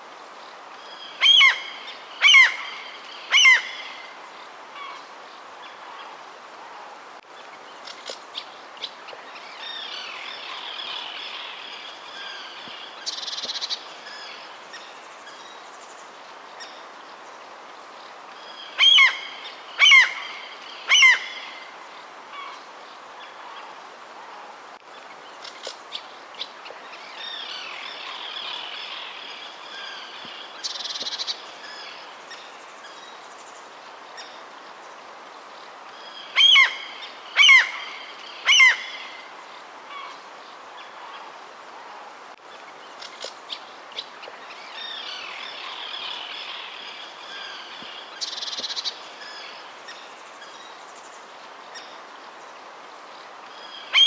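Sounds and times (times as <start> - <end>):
background hiss: 0.0 - 54.0.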